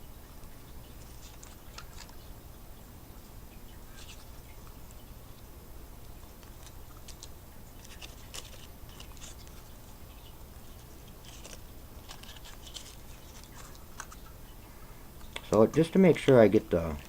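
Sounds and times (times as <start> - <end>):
low steady hum: 0.0 - 17.0
small clicks and crinkles: 0.2 - 17.0.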